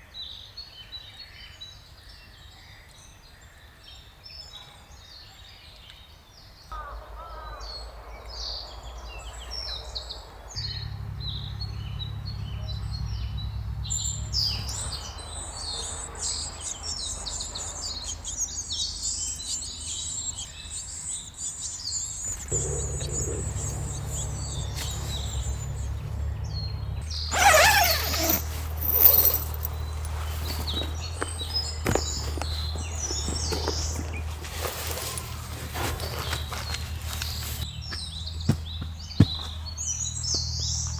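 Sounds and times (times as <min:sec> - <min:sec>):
birds chirping and singing: 0:06.8 - 0:40.9.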